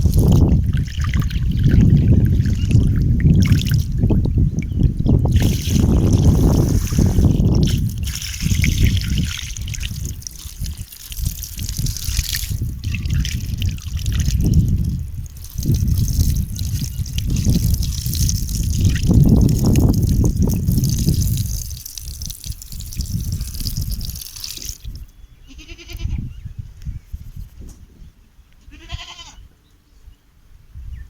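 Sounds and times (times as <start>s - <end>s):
water trickling and dripping: 0.0s - 25.0s.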